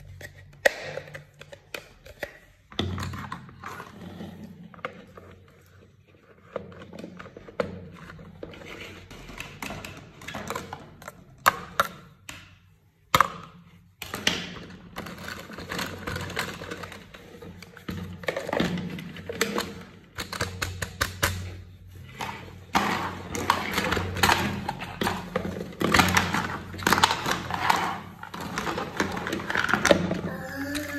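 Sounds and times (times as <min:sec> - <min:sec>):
plastic toys clicking and tapping: 0:00.0 - 0:30.9.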